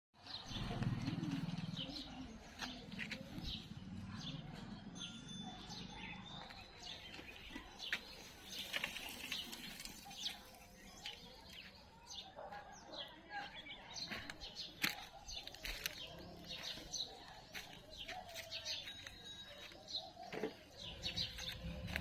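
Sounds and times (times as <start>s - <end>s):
birds chirping: 0.2s - 22.0s.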